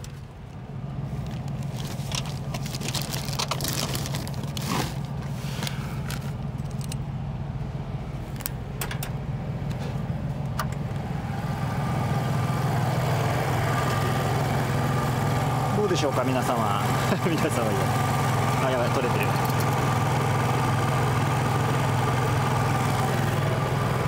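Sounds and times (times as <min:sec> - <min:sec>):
low engine hum: 0:00.0 - 0:24.0
small generator engine running: 0:01.6 - 0:24.0.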